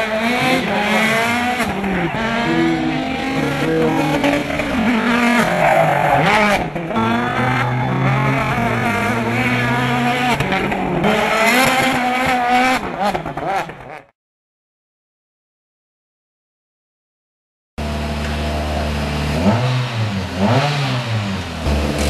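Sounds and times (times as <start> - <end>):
rally car engines revving past: 0.0 - 14.1, 17.8 - 22.0.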